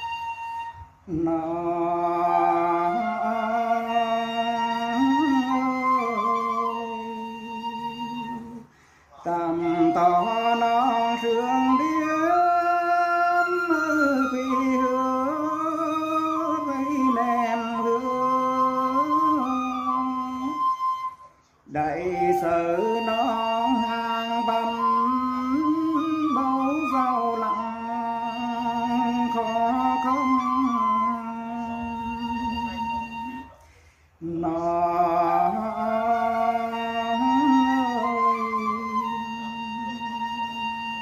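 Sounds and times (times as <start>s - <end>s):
person singing folk song: 1.1s - 41.0s.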